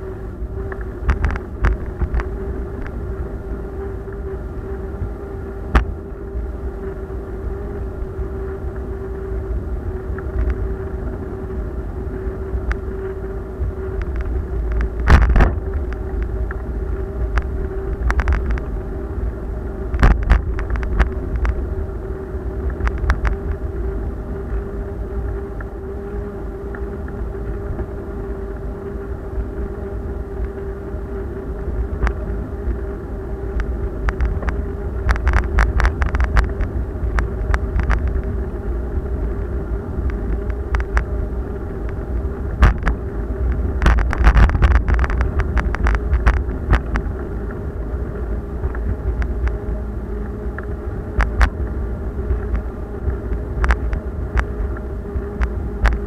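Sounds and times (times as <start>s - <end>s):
bicycle rattling over rough paving: 0.0s - 56.0s
steady hum: 0.0s - 56.0s
wind and vibration rumble: 0.0s - 56.0s.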